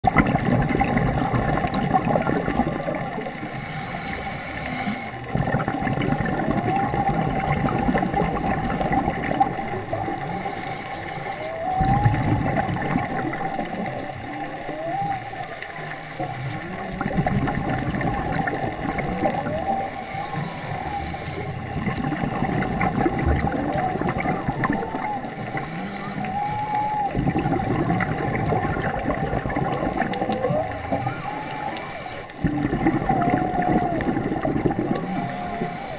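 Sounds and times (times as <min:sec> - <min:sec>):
underwater hiss and crackle: 0:00.0 - 0:35.9
humpback whale song: 0:00.1 - 0:35.9.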